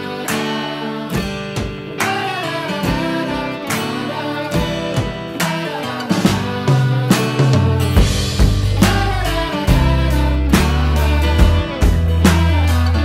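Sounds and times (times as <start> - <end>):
music with strummed chords: 0.0 - 13.0.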